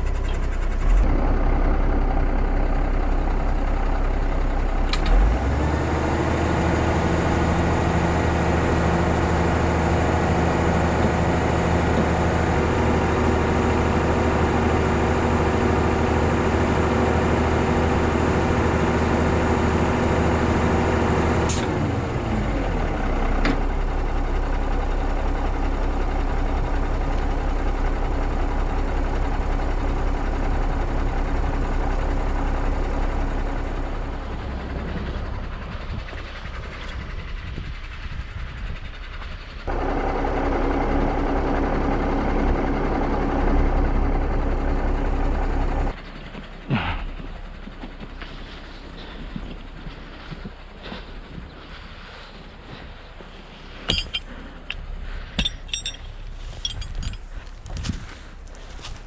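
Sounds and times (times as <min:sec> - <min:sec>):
diesel truck engine revving: 0:00.0 - 0:38.5, 0:39.6 - 0:55.4.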